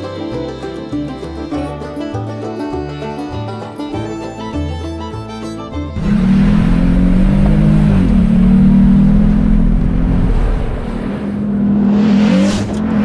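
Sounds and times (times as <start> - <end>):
vehicle engine running: 1.3 - 13.0.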